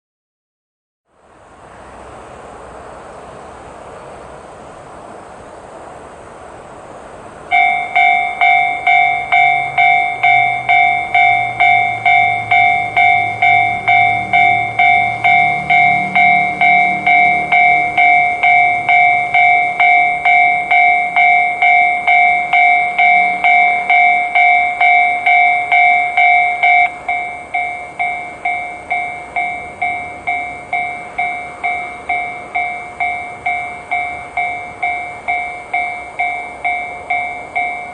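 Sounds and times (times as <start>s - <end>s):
level crossing alarm dinging: 7.5s - 37.9s.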